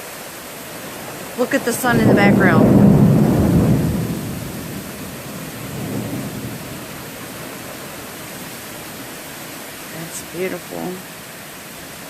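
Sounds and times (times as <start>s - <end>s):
steady rain falling: 0.0s - 12.0s
thunder rumbling: 0.7s - 11.3s.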